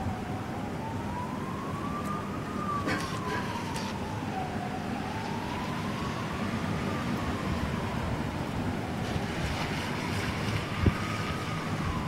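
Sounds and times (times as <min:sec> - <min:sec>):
distant siren wailing: 0:00.0 - 0:12.0
rushing wind: 0:02.3 - 0:12.0.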